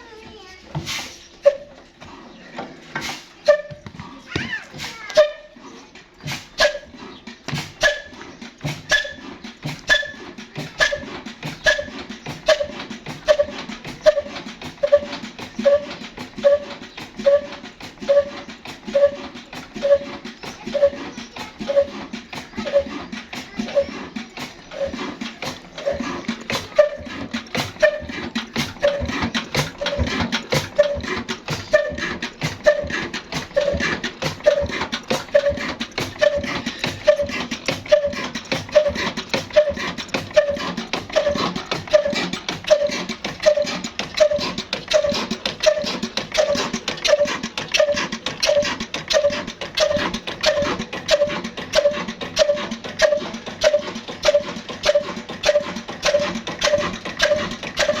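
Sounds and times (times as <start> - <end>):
stationary diesel engine knocking: 0.0 - 58.0.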